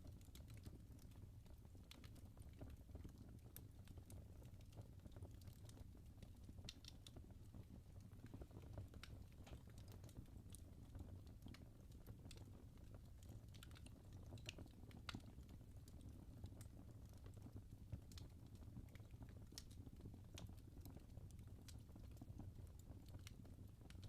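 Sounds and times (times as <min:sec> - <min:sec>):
logs crackling and popping: 0:00.0 - 0:24.0
low rumble of fire: 0:00.0 - 0:24.0.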